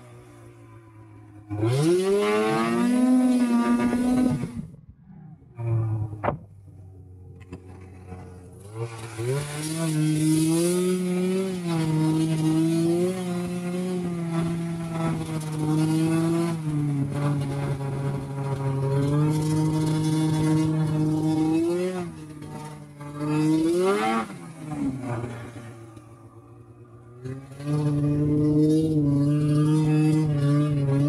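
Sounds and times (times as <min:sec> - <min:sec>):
snowmobile engine revving: 0:00.0 - 0:31.0.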